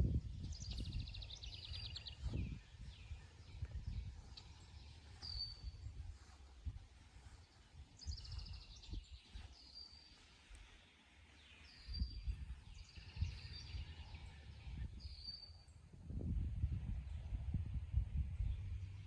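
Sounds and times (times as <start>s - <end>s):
low rumble on microphone: 0.0s - 10.2s, 11.2s - 19.0s.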